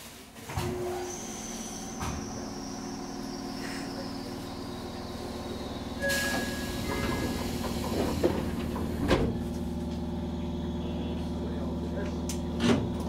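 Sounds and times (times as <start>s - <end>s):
electric train humming: 0.7s - 13.0s.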